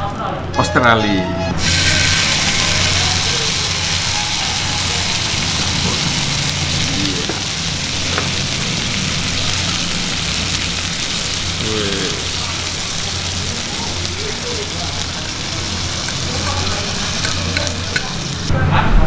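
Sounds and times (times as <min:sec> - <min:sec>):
steak sizzling on a hot plate: 0:01.6 - 0:18.5.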